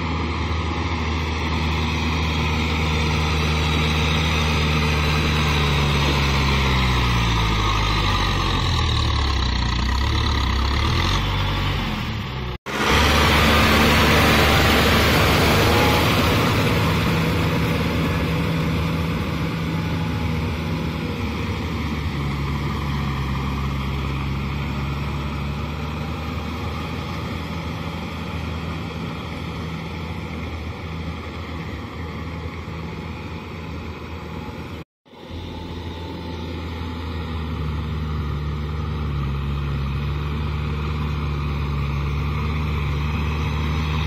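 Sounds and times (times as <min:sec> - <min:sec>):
tractor diesel engine running: 0:00.0 - 0:44.0
tyres churning through mud: 0:00.0 - 0:44.0.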